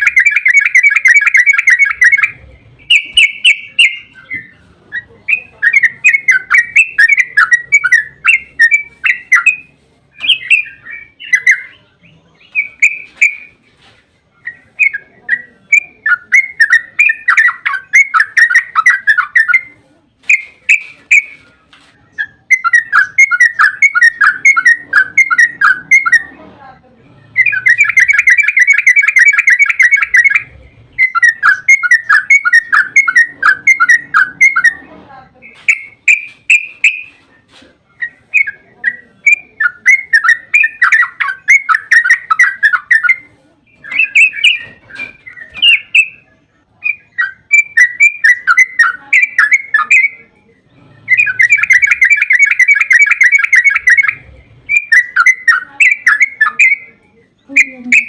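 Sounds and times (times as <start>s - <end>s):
bird singing rapid chattering notes: 0.0s - 26.4s, 27.1s - 58.0s.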